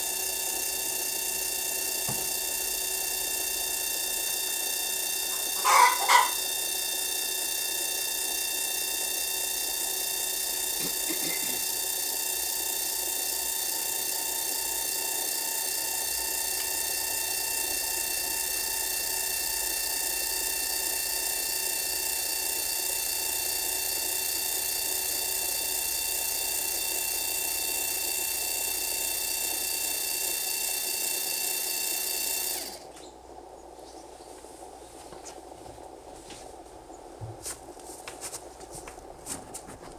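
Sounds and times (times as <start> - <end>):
actuator motor whining: 0.0 - 37.9.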